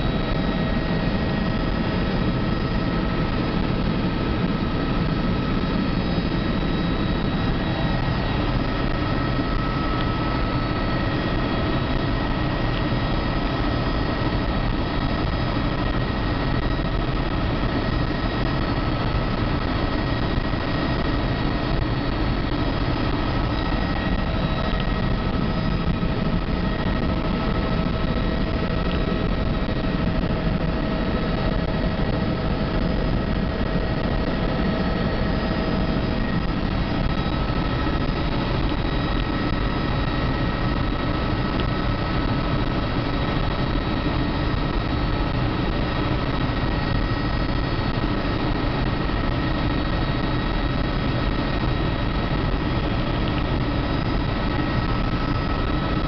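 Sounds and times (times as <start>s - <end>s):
helicopter engine and rotor drone: 0.0s - 56.0s
high-pitched whine: 0.0s - 56.0s.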